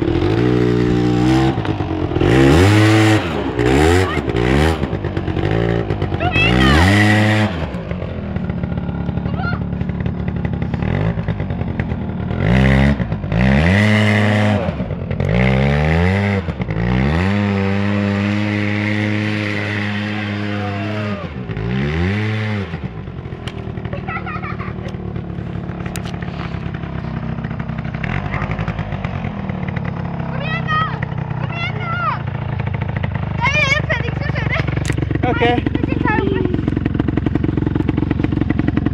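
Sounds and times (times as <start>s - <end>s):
atv engine idling and revving: 0.0s - 38.9s.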